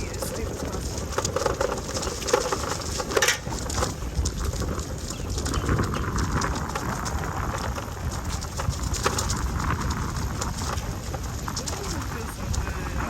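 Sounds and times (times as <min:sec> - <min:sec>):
bicycle clicking and rattling: 0:00.0 - 0:13.0
wind rumbling on microphone: 0:00.0 - 0:13.0.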